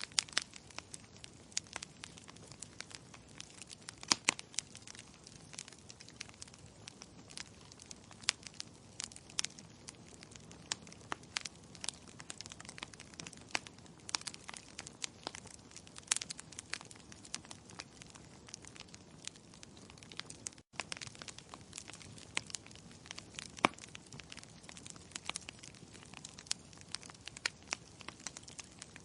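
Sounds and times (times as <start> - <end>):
low rush of flame: 0.0 - 29.0
wood fire crackling and popping: 0.0 - 29.0.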